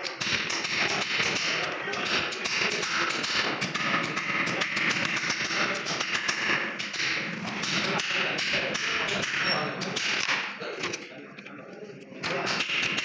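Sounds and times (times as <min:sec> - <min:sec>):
hammer tapping on chisel: 0:00.0 - 0:10.4.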